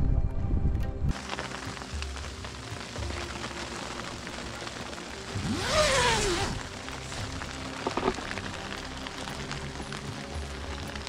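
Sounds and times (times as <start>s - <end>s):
snow pattering on tent fabric: 1.1s - 11.0s.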